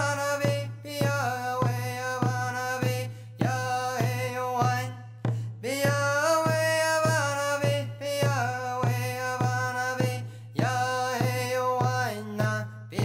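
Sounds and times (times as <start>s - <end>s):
man singing: 0.0s - 13.0s
steady drum beat: 0.0s - 13.0s.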